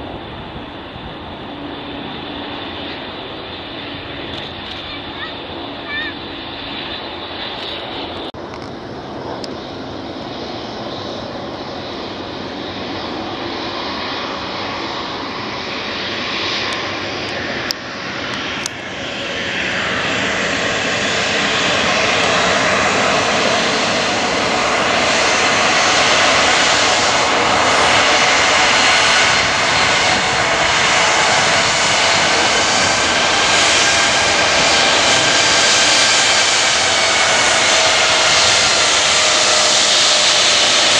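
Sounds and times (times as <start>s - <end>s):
high engine whine: 0.0s - 40.9s
jet engines running: 0.0s - 40.9s.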